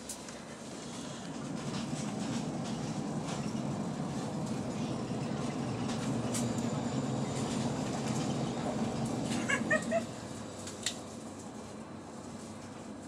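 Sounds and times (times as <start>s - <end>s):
train cabin rumble and hiss: 0.0s - 13.0s.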